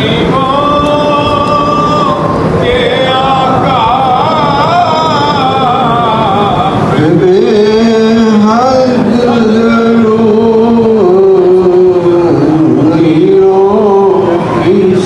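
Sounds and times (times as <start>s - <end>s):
deeper man's voice chanting: 0.0s - 15.0s
men chanting religious recitation: 0.0s - 15.0s.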